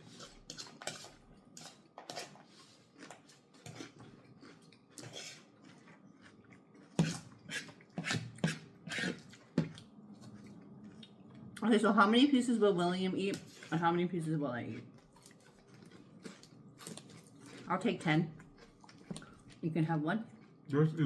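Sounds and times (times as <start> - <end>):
wet chewing and smacking: 0.2 - 11.6, 14.7 - 19.7, 20.3 - 20.8.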